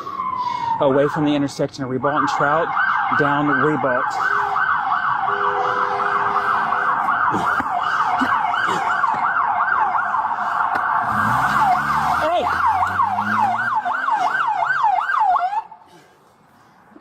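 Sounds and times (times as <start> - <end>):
police siren yelping: 0.0 - 15.8.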